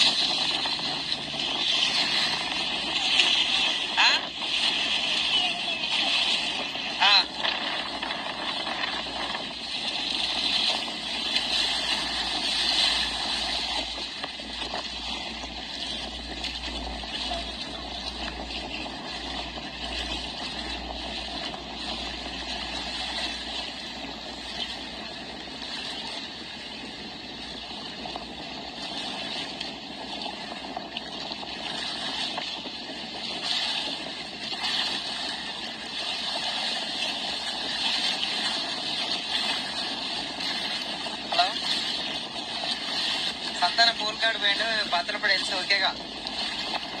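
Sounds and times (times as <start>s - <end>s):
floodwater rushing: 0.0s - 47.0s
low rumbling: 0.0s - 47.0s.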